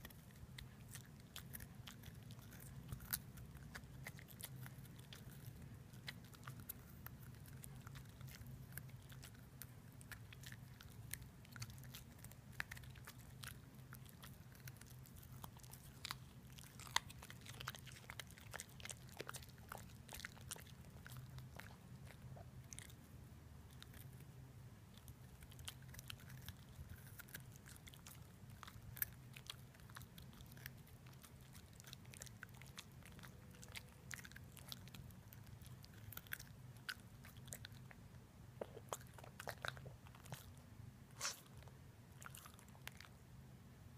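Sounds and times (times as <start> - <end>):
puppy crunching carrot: 0.0 - 23.1, 23.7 - 43.2.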